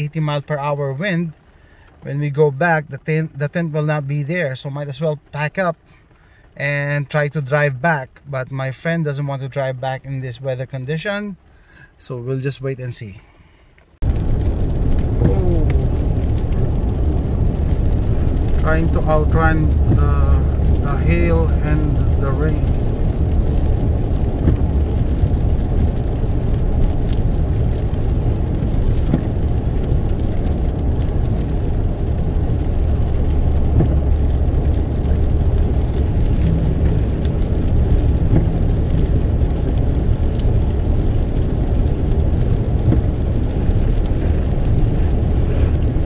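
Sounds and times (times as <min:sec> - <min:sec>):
car cabin road and engine rumble: 0:00.0 - 0:46.0.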